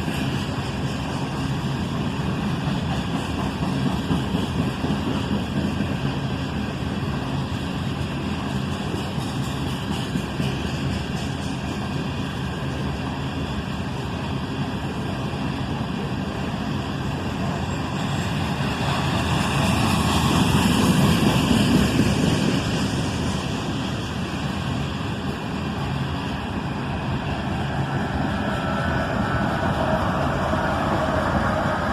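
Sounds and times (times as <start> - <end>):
freight train wheels rumbling: 0.0 - 31.9.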